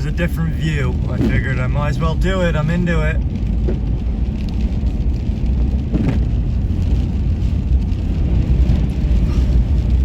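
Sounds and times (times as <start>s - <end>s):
road noise: 0.0s - 10.0s
wind buffeting car: 0.0s - 10.0s.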